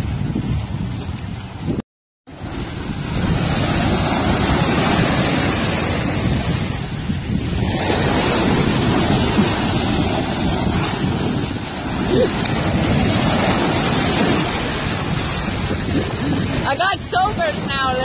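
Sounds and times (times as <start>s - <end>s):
wind buffeting microphone: 0.0s - 18.0s
surf breaking on shore: 2.3s - 18.0s.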